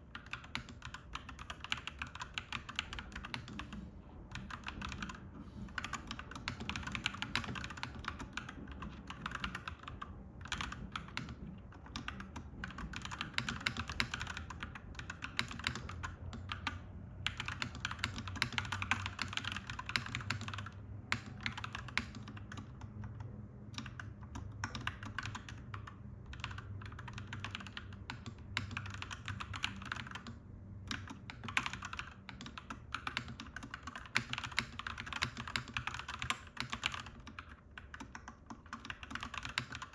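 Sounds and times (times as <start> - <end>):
mechanical keyboard typing: 0.0 - 39.9
steady low hum: 0.0 - 39.9.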